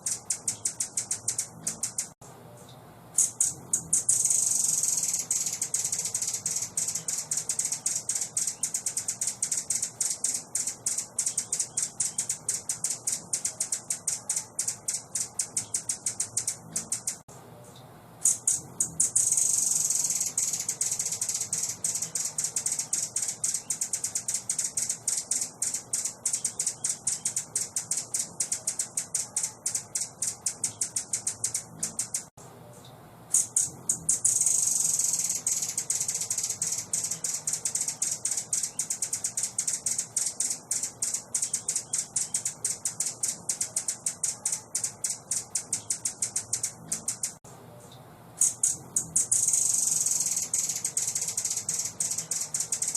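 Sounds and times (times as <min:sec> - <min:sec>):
recorded high-pitched rattling trill: 0:00.0 - 0:02.2, 0:03.2 - 0:17.3, 0:18.2 - 0:32.4, 0:33.3 - 0:47.4, 0:48.4 - 0:52.9.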